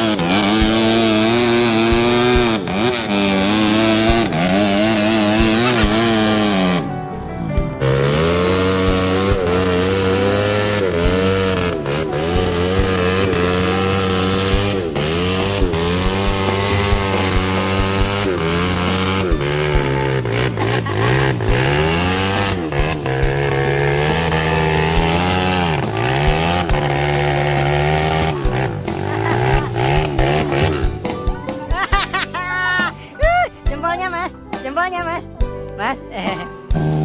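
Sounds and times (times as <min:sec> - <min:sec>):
off-road vehicle engine revving: 0:00.0 - 0:35.5, 0:36.2 - 0:37.0.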